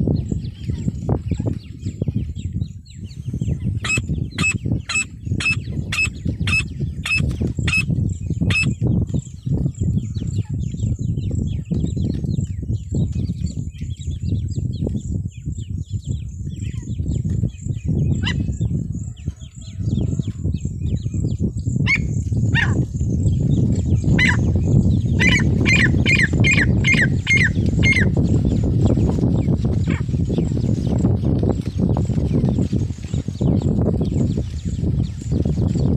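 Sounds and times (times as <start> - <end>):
small birds chirping: 0.0 - 35.9
steady low rumble: 0.0 - 35.9.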